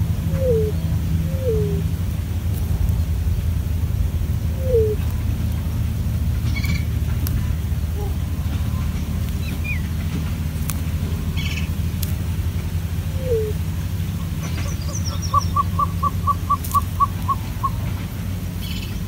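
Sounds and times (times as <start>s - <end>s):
bird calling steady notes: 0.0s - 19.0s
steady low rumble: 0.0s - 19.0s.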